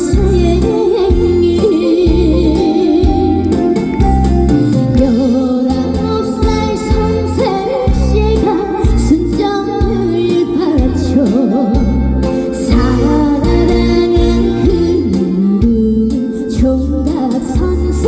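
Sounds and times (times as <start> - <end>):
backing track with bass beat: 0.0 - 18.0
woman singing with vibrato: 0.0 - 18.0.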